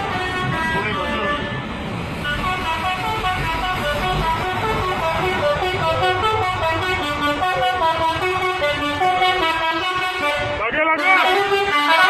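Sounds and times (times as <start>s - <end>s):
multi-tone air horn tune: 0.0s - 1.6s, 2.2s - 12.0s.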